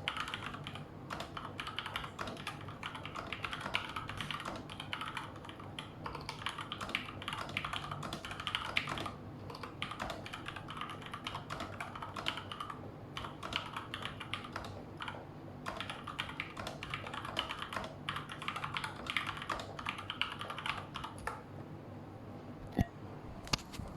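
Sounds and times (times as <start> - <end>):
mechanical keyboard typing: 0.0 - 21.4.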